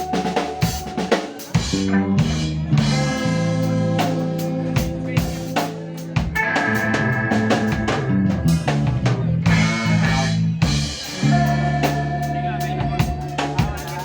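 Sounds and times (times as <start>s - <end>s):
bass notes: 0.0s - 14.0s
drum kit: 0.0s - 14.0s.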